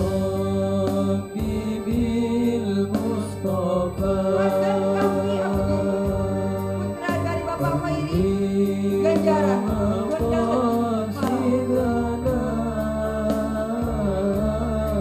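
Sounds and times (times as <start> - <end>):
instrumental accompaniment: 0.0 - 15.0
male voices singing together: 0.0 - 15.0.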